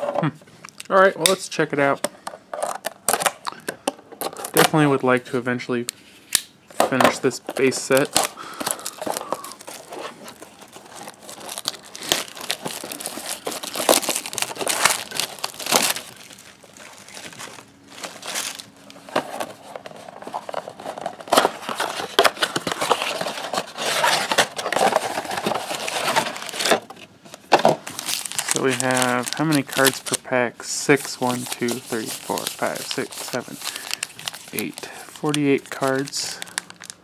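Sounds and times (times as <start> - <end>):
wrappers crinkling and tearing: 7.2 - 37.0.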